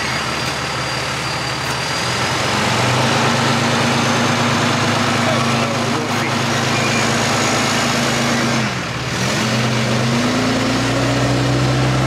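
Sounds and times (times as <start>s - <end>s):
tow truck engine running: 0.0s - 12.0s.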